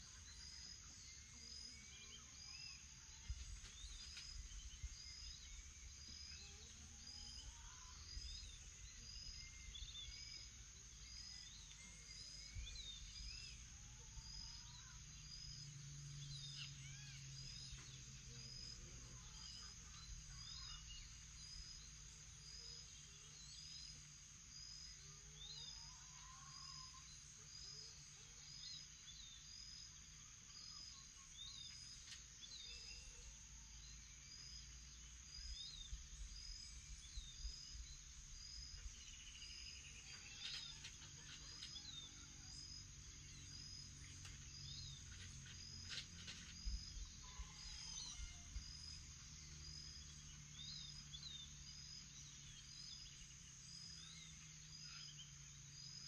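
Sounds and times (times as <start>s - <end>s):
birds calling and singing: 0.0s - 56.0s.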